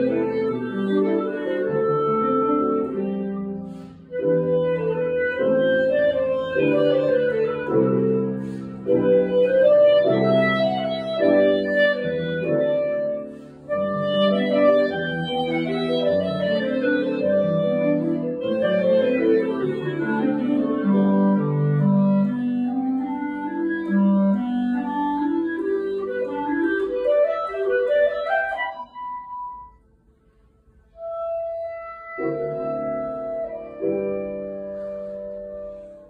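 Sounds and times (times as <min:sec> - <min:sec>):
clarinet playing classical piece: 0:00.0 - 0:36.0
grand piano accompaniment: 0:00.0 - 0:36.0.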